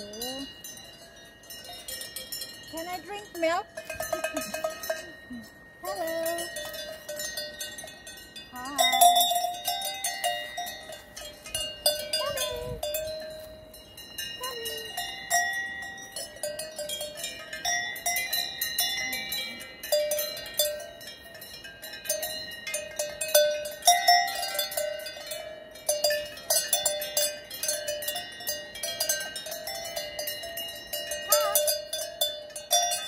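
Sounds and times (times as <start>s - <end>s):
cowbells clanking: 0.0s - 33.0s.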